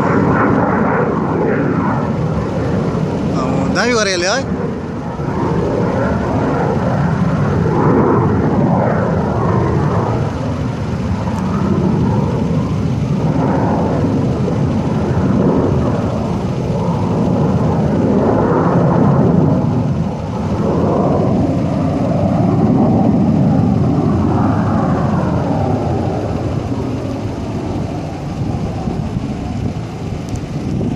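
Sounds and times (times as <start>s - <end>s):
aircraft engines roaring overhead: 0.0s - 30.9s.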